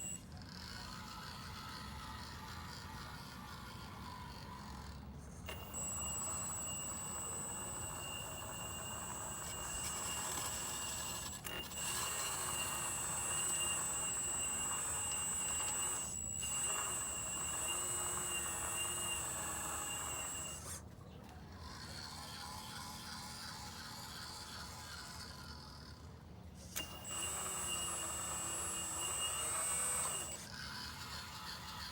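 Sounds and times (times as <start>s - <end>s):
model excavator pump motor whining: 0.0s - 31.9s
rough mechanical noise: 0.0s - 31.9s.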